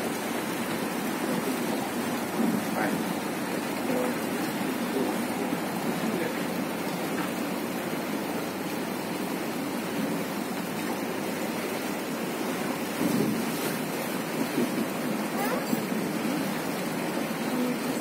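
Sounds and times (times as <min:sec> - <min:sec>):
boat rushing through water: 0:00.0 - 0:18.0.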